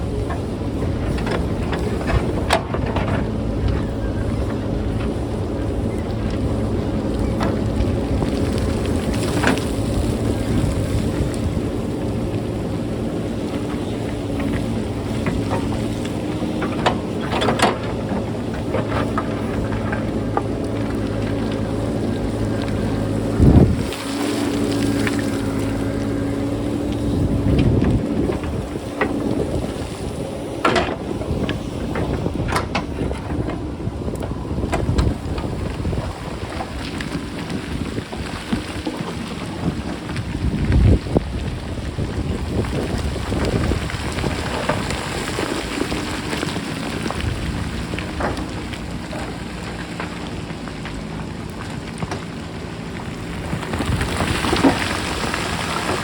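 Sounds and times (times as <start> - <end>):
backhoe engine running: 0.0 - 56.0
rocks clattering: 0.0 - 56.0
wind buffeting microphone: 0.0 - 56.0.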